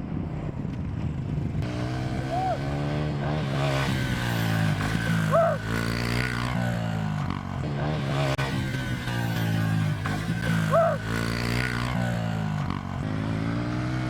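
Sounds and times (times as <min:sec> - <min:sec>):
pit bike engines revving: 0:00.5 - 0:14.0.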